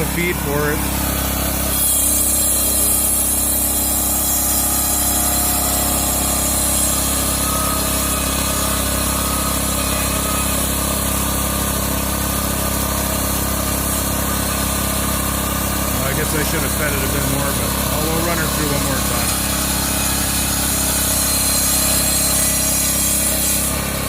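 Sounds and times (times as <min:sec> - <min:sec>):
sawmill blade cutting log: 0:00.0 - 0:24.0.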